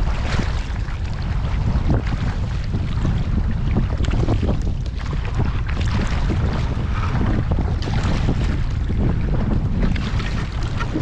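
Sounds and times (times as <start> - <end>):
water splashes from paddling: 0.0 - 11.0
wind buffeting microphone: 0.0 - 11.0.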